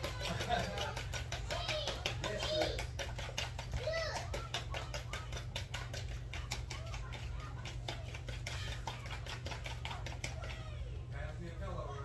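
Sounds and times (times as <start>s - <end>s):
clicking and crackling in flour: 0.0s - 10.9s.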